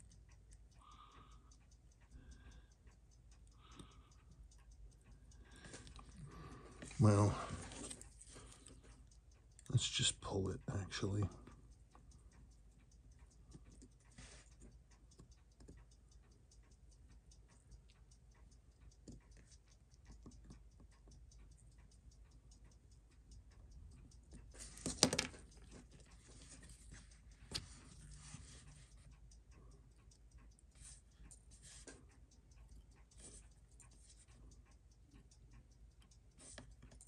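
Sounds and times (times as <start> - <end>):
fast watch ticking: 0.0 - 37.0.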